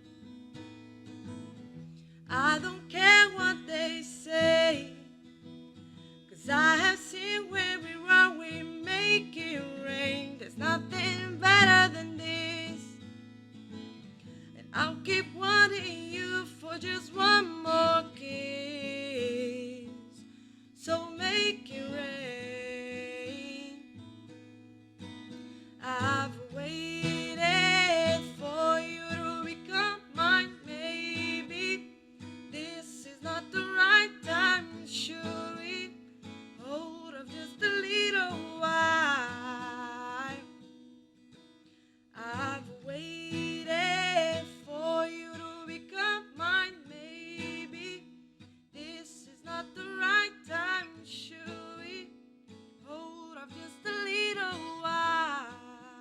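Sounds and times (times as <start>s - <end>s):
strummed acoustic guitar: 0.0s - 56.0s
woman singing: 2.3s - 5.2s, 6.3s - 13.1s, 14.5s - 24.1s, 25.7s - 40.7s, 42.2s - 52.2s, 52.8s - 56.0s.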